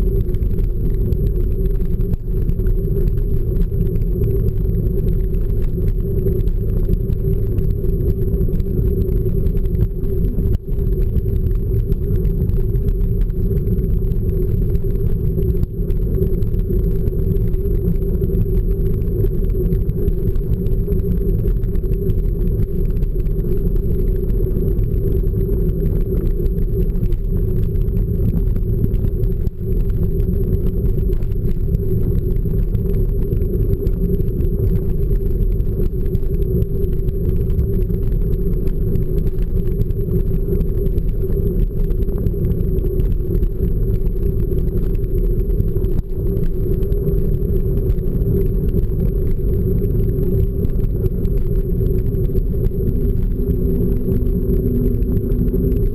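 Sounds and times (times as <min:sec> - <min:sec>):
muffled wind and ride noise: 0:00.0 - 0:55.9.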